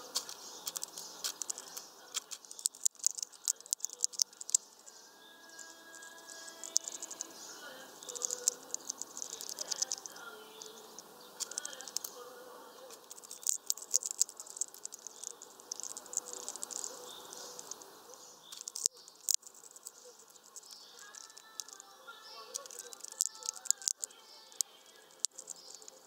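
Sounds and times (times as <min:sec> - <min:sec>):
seeds being cracked: 0:00.0 - 0:12.2, 0:12.9 - 0:26.0
high fitful chirring: 0:00.0 - 0:26.0.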